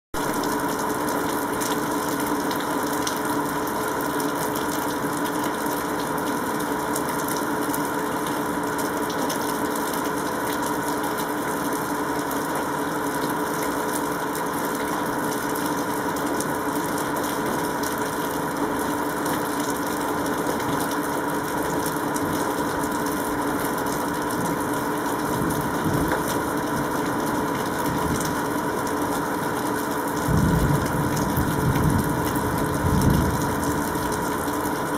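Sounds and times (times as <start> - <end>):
steady mechanical hum: 0.2 - 34.9.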